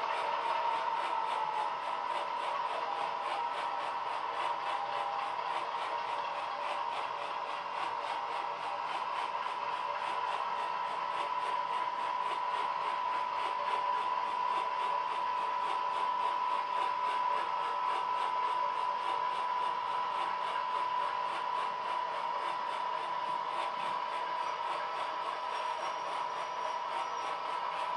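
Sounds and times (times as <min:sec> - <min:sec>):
model train motor whine: 0:00.0 - 0:27.9.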